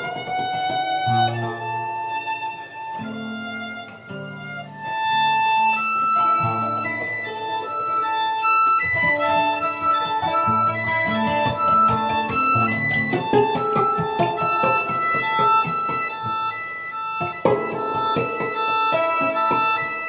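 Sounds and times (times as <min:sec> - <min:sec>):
acoustic guitar plucking: 0:00.0 - 0:20.0
violin holding long notes: 0:00.0 - 0:20.0.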